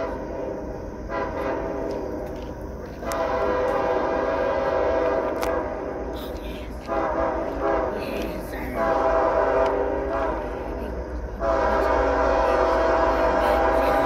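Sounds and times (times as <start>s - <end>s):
locomotive air horn blasts: 0.0s - 2.1s, 3.0s - 14.0s
low train rumble: 0.0s - 14.0s.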